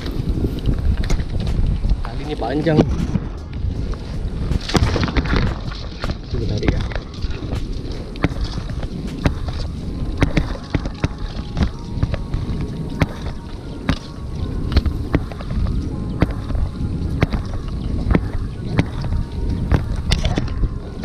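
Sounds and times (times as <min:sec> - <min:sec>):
wind noise on microphone: 0:00.0 - 0:21.0
water around hull: 0:02.7 - 0:21.0.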